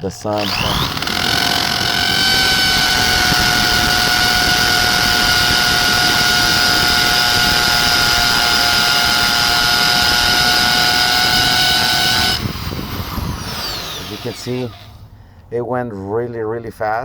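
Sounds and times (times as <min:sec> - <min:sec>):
hammer drill boring into concrete: 0:00.2 - 0:15.0.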